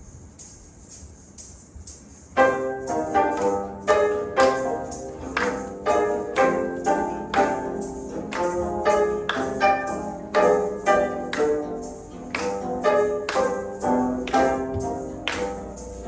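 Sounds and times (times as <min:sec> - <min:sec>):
jingling percussion beat: 0:00.0 - 0:16.0
instrumental ensemble chords: 0:02.4 - 0:16.0.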